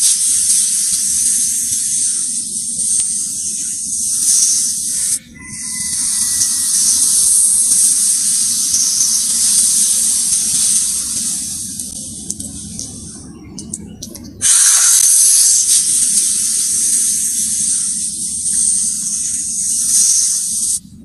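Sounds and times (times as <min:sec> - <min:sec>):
snake hissing: 0:00.0 - 0:13.1, 0:14.4 - 0:20.8.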